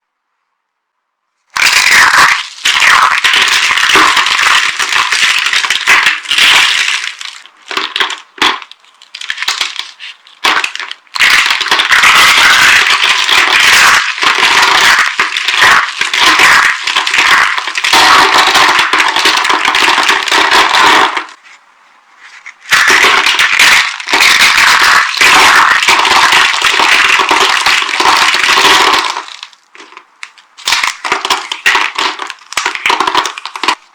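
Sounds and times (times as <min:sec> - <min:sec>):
bar soap crunching and crackling: 0:01.5 - 0:21.4, 0:22.2 - 0:33.9.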